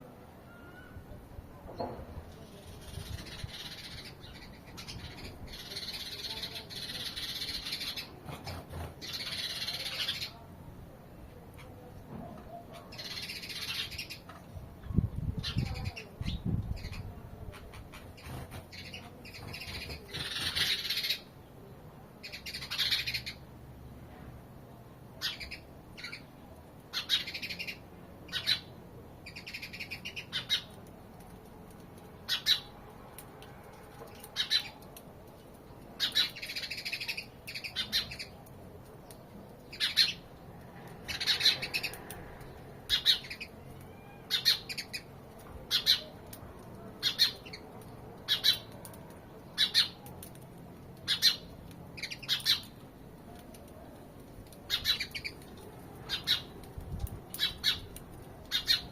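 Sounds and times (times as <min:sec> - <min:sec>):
sparrows chirping: 0:02.4 - 0:10.5, 0:11.4 - 0:23.5, 0:25.2 - 0:31.4, 0:32.0 - 0:33.0, 0:34.0 - 0:50.4, 0:51.0 - 0:58.9.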